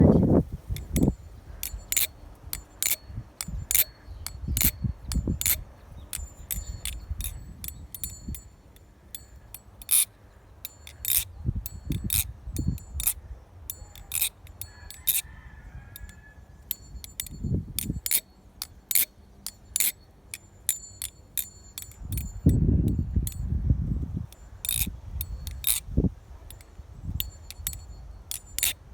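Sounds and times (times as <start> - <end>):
butterfly knife metallic clicks: 0.7 - 15.3, 15.9 - 23.6, 24.3 - 28.9.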